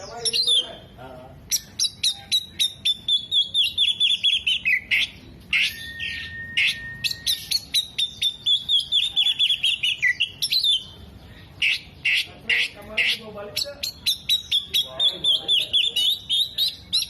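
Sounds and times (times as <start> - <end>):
magpie-robin singing: 0.0 - 17.0.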